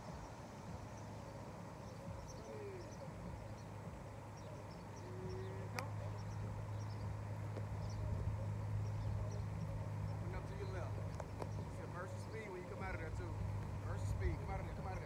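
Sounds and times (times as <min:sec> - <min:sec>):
faint bird chirps: 0:00.0 - 0:13.4
low bird notes: 0:00.0 - 0:15.0
low hum: 0:00.0 - 0:15.0.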